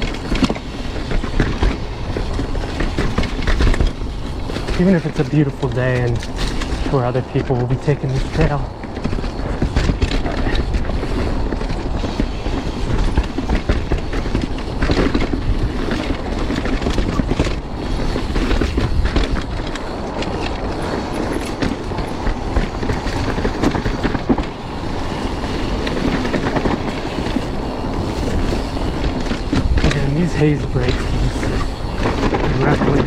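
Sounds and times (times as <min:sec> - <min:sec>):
bike rattling over rough ground: 0:00.0 - 0:33.0
bike tyres on dirt: 0:00.0 - 0:33.0
wind rumble on microphone: 0:00.0 - 0:33.0.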